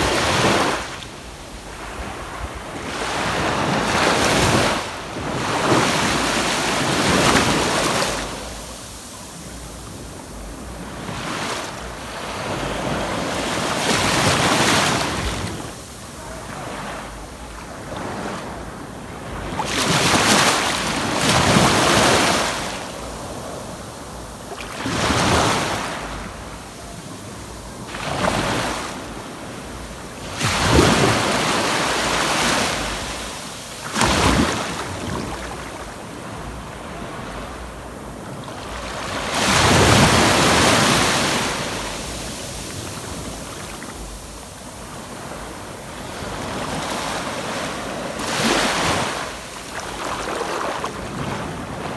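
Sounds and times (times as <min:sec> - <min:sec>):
ocean waves breaking: 0:00.0 - 0:51.9
surf hiss: 0:00.0 - 0:51.9.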